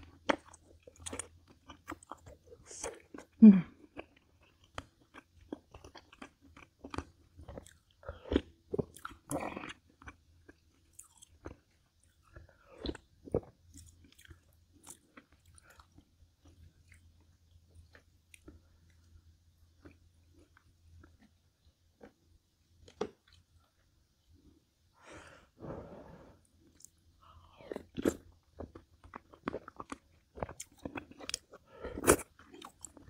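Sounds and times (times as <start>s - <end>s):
person chewing food: 0.0s - 24.6s, 25.6s - 33.0s.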